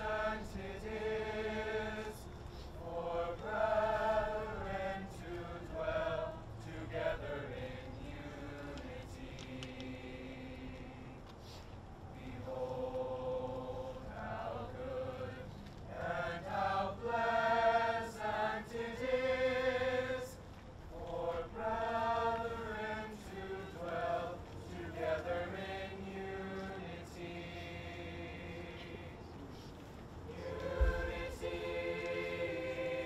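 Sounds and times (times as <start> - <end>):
choir singing held notes: 0.0 - 33.0.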